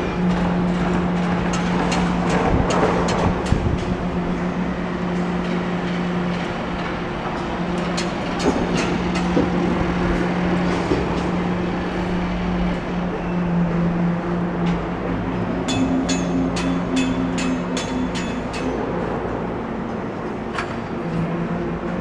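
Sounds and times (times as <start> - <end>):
machinery humming and rumbling: 0.0 - 22.0.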